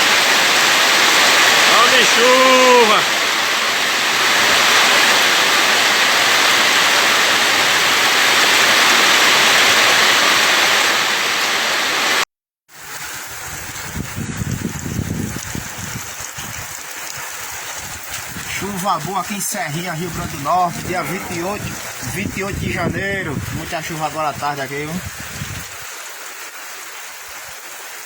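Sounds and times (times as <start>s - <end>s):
pouring water rushing: 0.0s - 28.0s.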